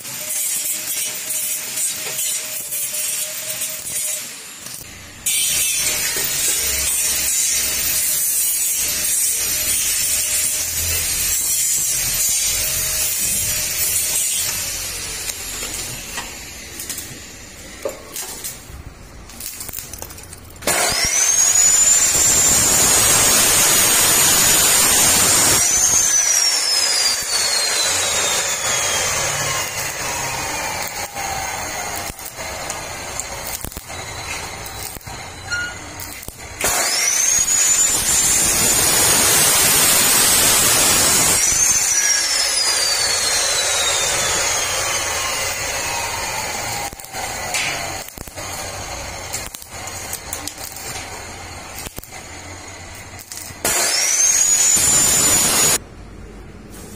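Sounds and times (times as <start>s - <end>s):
chop saw whining: 0.0s - 18.2s, 20.6s - 55.8s
saw cutting steel: 0.0s - 55.8s
welding arc crackling: 0.0s - 55.8s.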